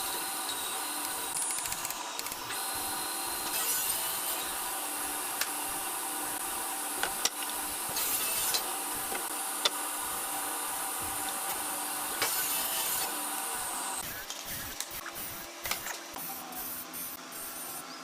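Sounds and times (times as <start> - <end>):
power tool working wood: 0.0 - 14.8.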